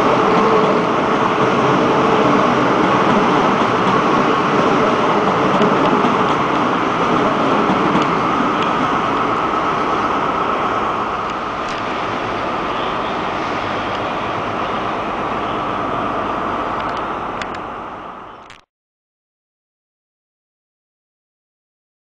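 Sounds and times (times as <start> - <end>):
train wheels on rail: 0.0 - 18.5.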